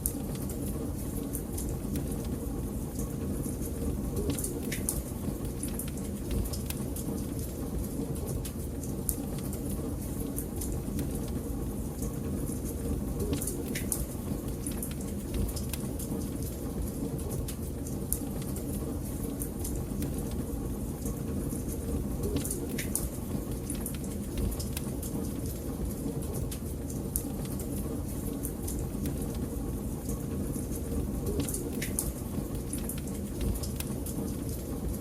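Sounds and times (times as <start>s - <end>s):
fire crackling and popping: 0.0s - 35.0s
low rumble of flames: 0.0s - 35.0s.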